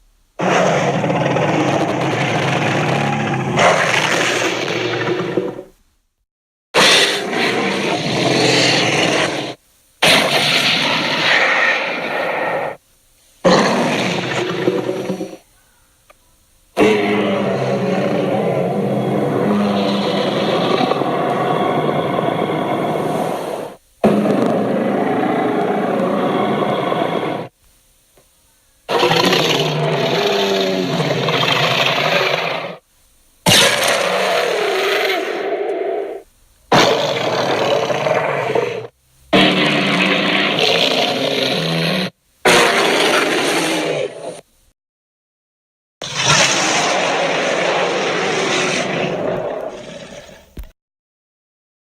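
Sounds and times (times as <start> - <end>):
dinosaur roars: 0.4 - 5.7, 6.8 - 12.8, 13.4 - 15.4, 16.8 - 27.5, 28.9 - 32.8, 33.5 - 44.4, 46.0 - 50.7.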